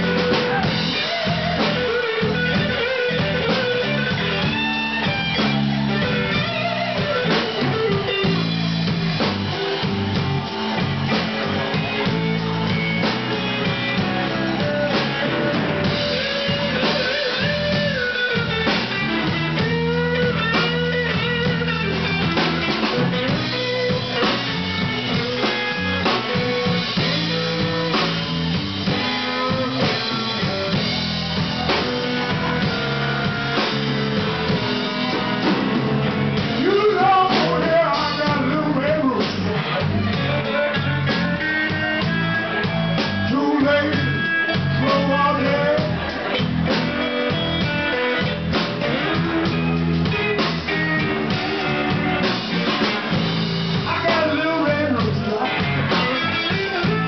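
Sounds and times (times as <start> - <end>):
drum kit: 0.0 - 57.0
electric guitar lead: 0.0 - 57.0.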